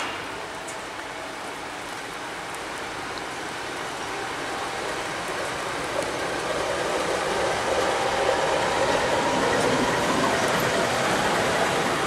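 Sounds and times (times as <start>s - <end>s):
freight train wheels on track: 0.0s - 12.0s.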